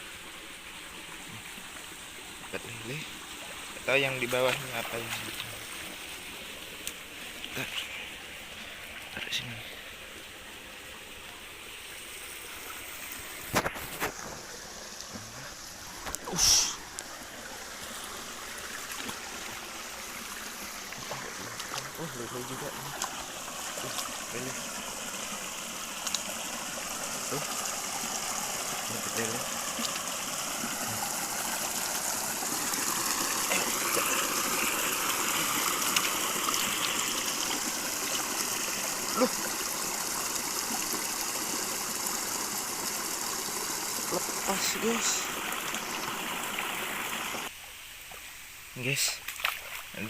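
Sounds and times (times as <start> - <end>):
river water rushing: 0.0 - 47.6
stream flowing: 0.0 - 50.0.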